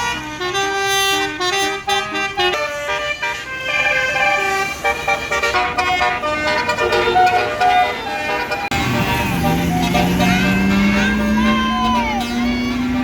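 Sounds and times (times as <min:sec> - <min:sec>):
bus horn playing a melody: 0:00.0 - 0:13.0.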